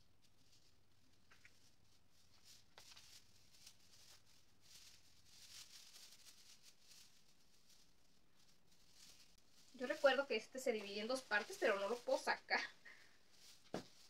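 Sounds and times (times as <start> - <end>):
rustling of plastic branches: 0.0 - 14.0.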